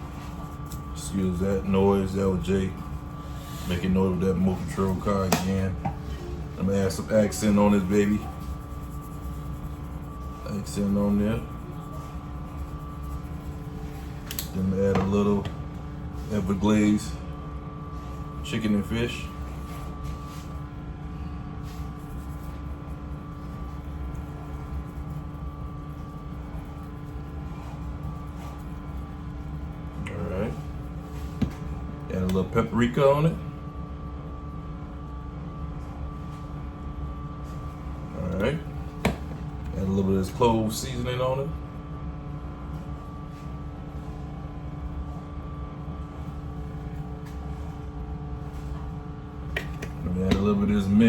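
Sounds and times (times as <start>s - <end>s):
motor hum with pitched whine: 0.0s - 51.0s.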